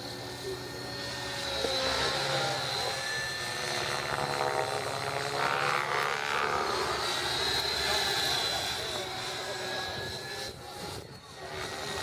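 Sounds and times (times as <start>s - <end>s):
model helicopter whine: 0.0s - 12.0s.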